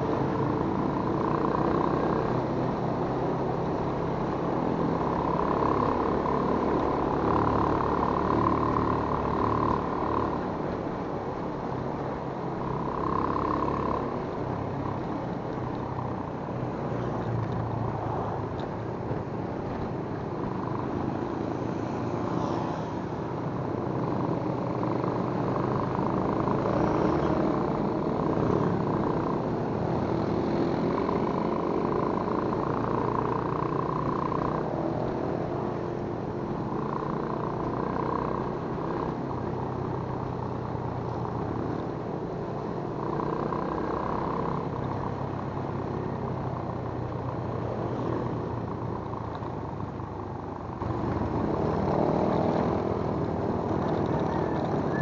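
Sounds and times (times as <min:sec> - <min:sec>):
motorcycle engines running: 0:00.0 - 0:55.0
road noise: 0:00.0 - 0:55.0
wind: 0:00.0 - 0:55.0.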